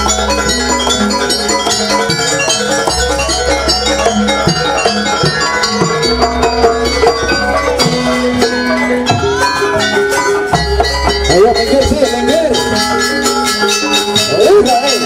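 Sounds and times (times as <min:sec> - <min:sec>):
held melodic tones: 0:00.0 - 0:15.0
struck metal notes ringing: 0:00.0 - 0:15.0.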